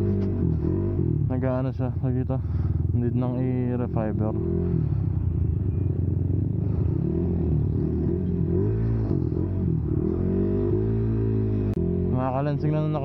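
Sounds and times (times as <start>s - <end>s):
motorcycle engine revving: 0.0s - 1.6s, 2.4s - 13.0s.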